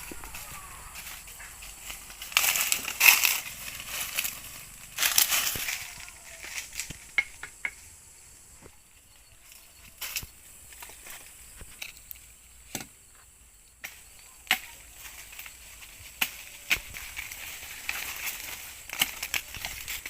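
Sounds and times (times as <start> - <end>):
crunching and rustling: 0.0 - 7.4, 8.6 - 20.0.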